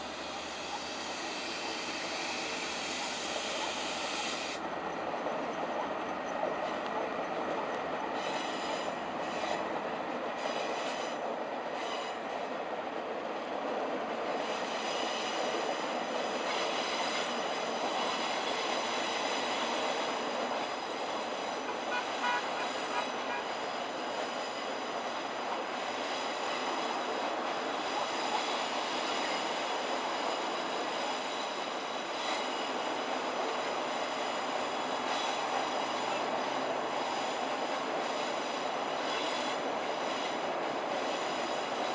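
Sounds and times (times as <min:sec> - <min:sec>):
train wheels on rails: 0:00.0 - 0:41.9.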